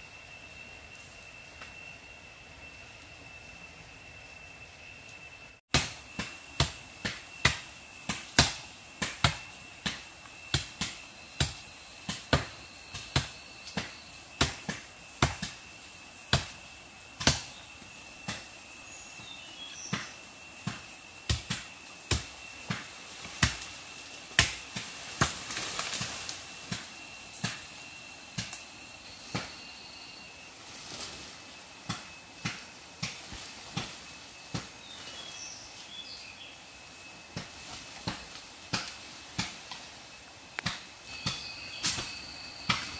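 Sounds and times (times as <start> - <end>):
high-pitched whine: 0.0 - 42.9.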